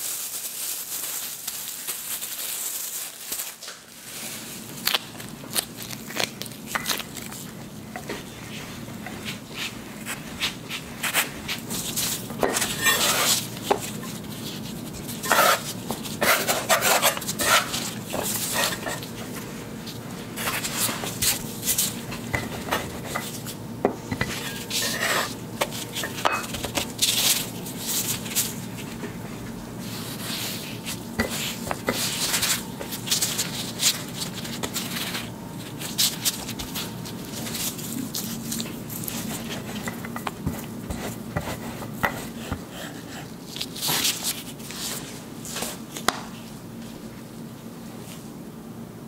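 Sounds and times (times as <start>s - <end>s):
rolling pin rolling dough: 6.6s - 46.4s.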